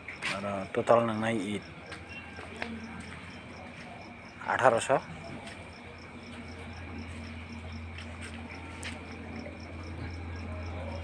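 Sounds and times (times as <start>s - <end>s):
insect chirping: 0.0s - 11.0s
steady low hum: 0.0s - 11.0s.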